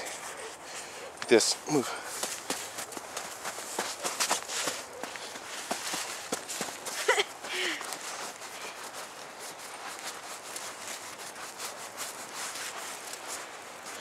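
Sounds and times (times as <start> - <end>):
footsteps crunching in snow: 0.0 - 14.0.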